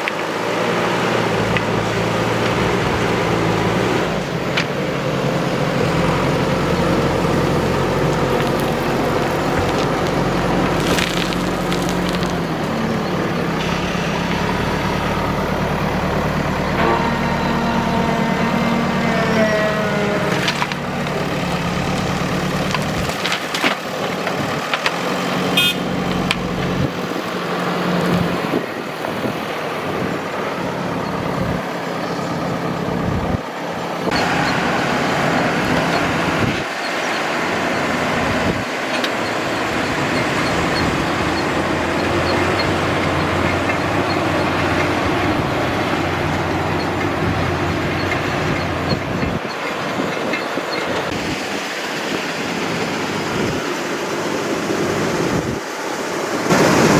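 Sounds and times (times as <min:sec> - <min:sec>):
heavy machinery diesel engine: 0:00.0 - 0:56.9.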